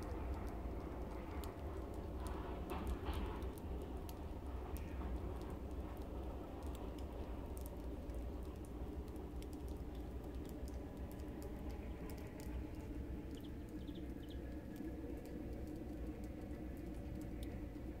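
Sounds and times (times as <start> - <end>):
light ticks: 0.0 - 18.0.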